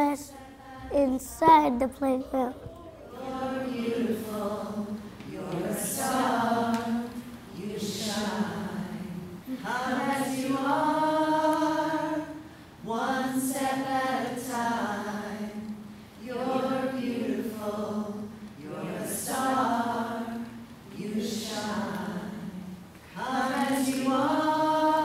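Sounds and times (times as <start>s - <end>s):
group singing unaccompanied: 2.7s - 25.0s.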